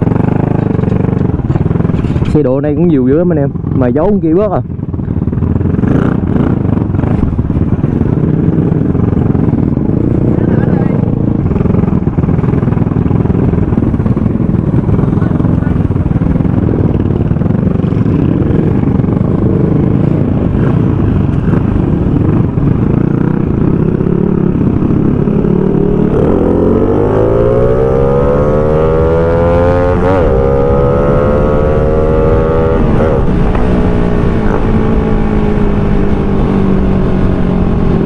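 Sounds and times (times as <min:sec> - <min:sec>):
motorcycle engine accelerating: 0:00.0 - 0:38.0
rushing wind noise: 0:00.0 - 0:38.0.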